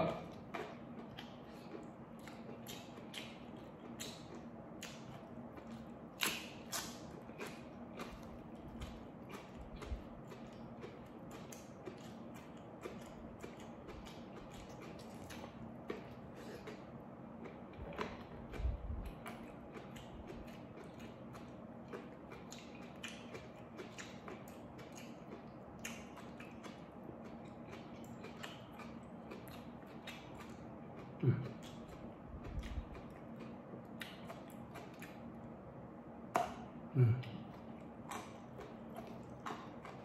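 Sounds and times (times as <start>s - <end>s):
person chewing: 0.0s - 35.5s, 36.3s - 40.0s
steady low hum: 0.0s - 40.0s.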